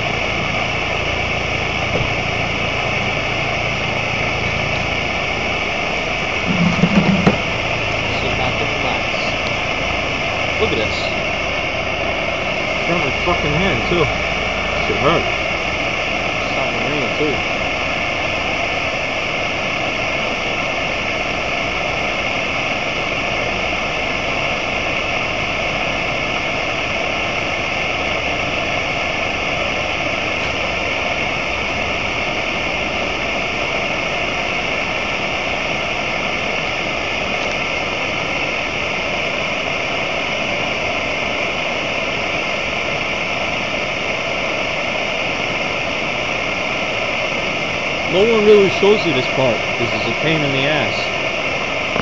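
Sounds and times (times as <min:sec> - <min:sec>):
gas torch flame hissing: 0:00.0 - 0:52.0.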